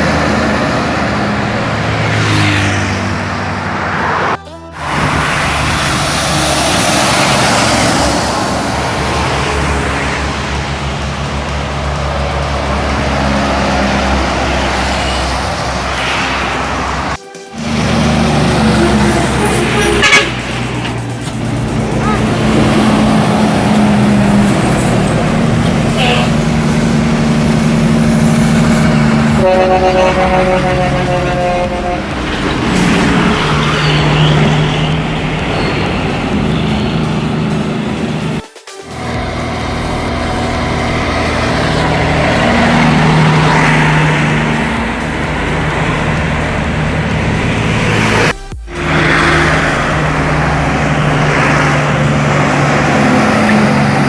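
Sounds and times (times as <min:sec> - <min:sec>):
heavy truck running: 0:00.0 - 0:54.0.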